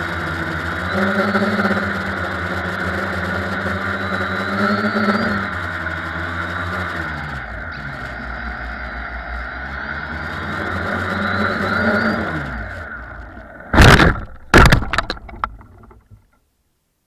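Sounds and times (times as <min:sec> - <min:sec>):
quadcopter propellers humming: 0:00.0 - 0:13.8
high whine: 0:00.0 - 0:16.1.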